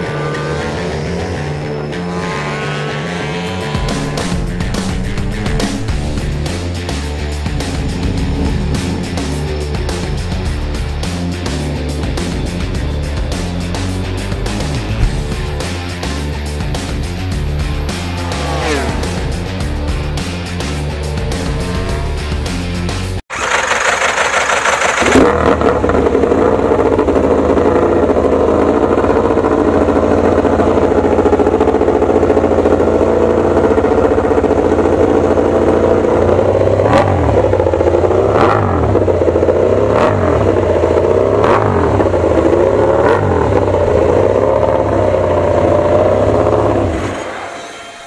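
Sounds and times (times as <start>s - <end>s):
racing motorcycles at high revs: 0.0s - 47.4s.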